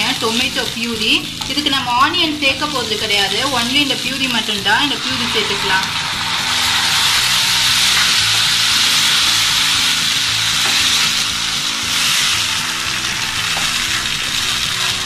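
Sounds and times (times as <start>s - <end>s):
sauce sizzling in hot oil: 0.0s - 15.0s.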